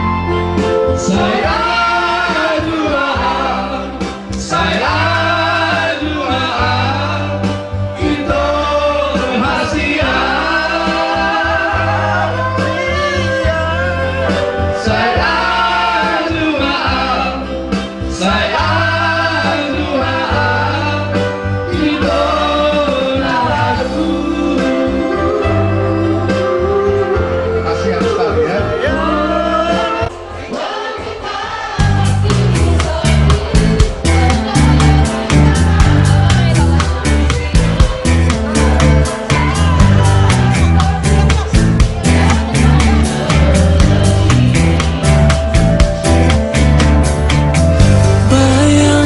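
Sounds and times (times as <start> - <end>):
steady bass line: 0.0 - 30.2, 31.7 - 49.0
person singing gospel song: 0.9 - 46.3, 47.6 - 49.0.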